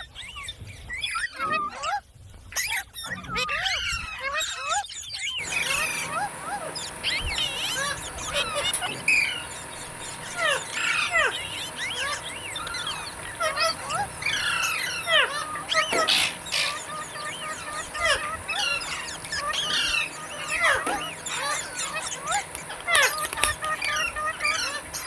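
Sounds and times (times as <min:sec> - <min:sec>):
parrots chirping: 0:02.6 - 0:25.0.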